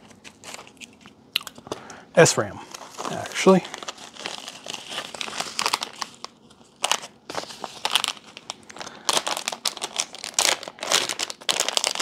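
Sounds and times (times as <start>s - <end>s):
plastic packaging crinkling: 0.0s - 1.7s, 2.6s - 12.0s.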